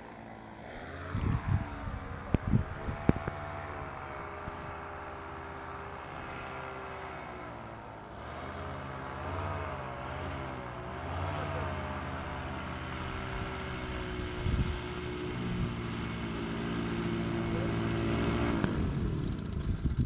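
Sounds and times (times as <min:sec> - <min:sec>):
paramotor engine droning: 0:00.0 - 0:20.0.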